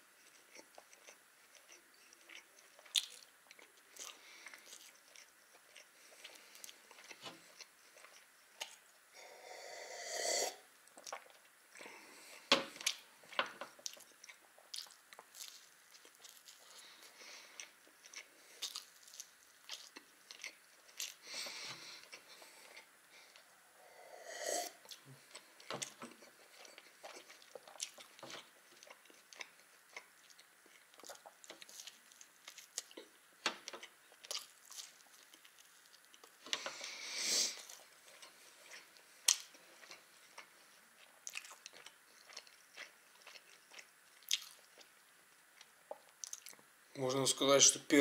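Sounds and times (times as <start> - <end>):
chewing and biting food: 0.2 - 8.9, 10.8 - 23.5, 24.8 - 36.9, 37.5 - 46.7.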